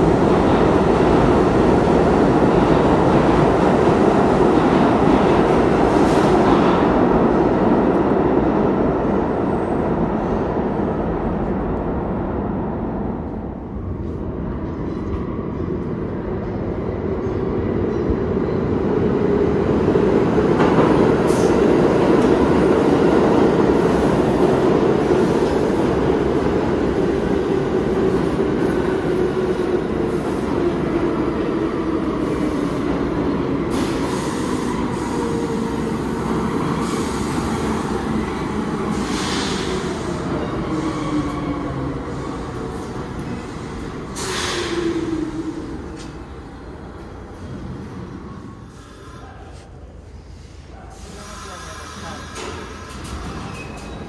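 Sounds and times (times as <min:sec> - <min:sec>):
subway train rumbling past: 0:00.0 - 0:54.0.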